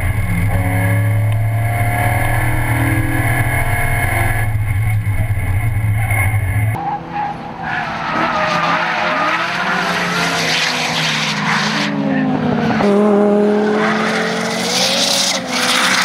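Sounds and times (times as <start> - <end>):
car engine droning at high revs: 0.0 - 16.0
car engine revving: 0.0 - 16.0.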